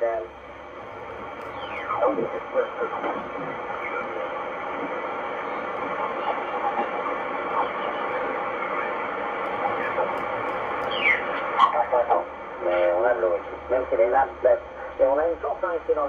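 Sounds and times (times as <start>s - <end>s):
faint garbled radio voices: 0.0s - 16.0s
radio band noise hiss: 0.0s - 16.0s.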